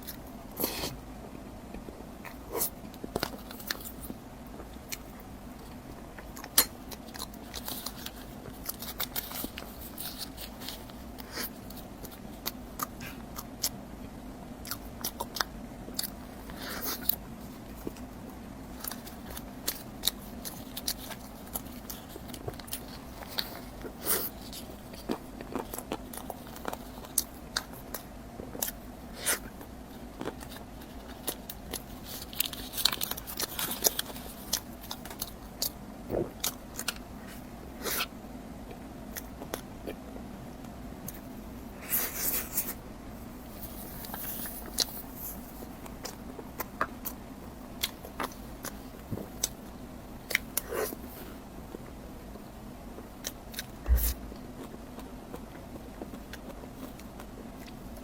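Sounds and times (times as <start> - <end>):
person chewing food: 1.6 - 38.1, 38.7 - 58.0.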